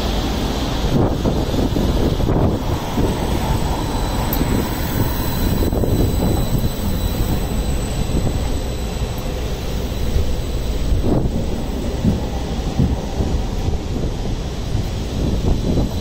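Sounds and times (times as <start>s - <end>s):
tram running on rails: 0.0s - 16.0s.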